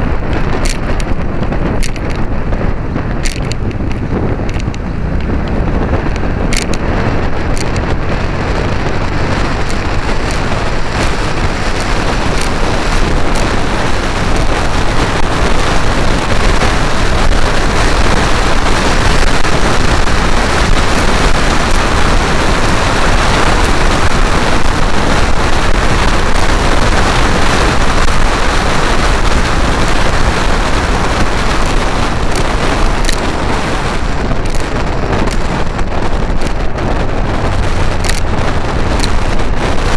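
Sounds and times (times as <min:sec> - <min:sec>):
scooter engine running: 0:00.0 - 0:39.9
wind buffeting microphone: 0:00.0 - 0:39.9.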